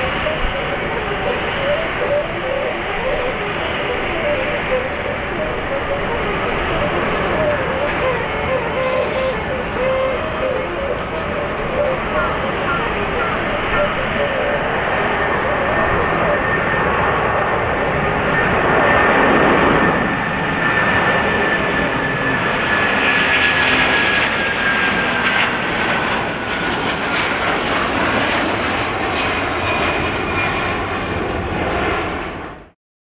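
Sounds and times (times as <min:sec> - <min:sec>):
high jet whine: 0:00.0 - 0:32.7
airliner jet engines roaring: 0:00.0 - 0:32.8.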